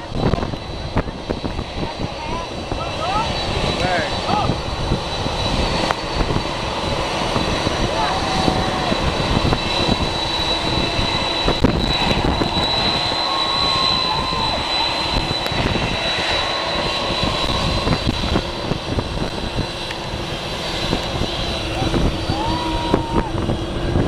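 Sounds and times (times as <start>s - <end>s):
jet engines at takeoff: 0.0s - 24.0s.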